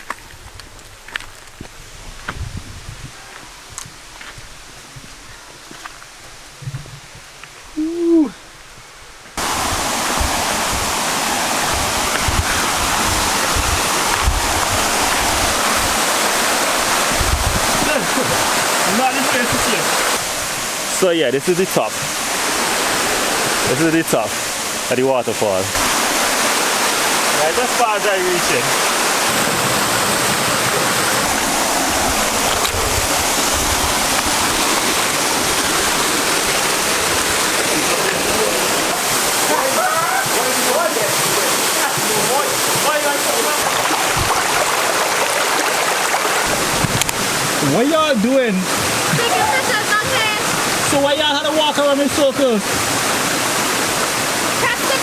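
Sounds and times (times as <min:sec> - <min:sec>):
waterfall roaring: 0:09.4 - 0:55.0.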